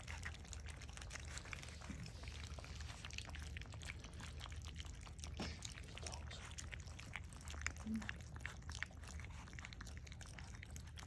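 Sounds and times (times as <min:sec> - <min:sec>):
puppies lapping and slurping: 0:00.0 - 0:11.0.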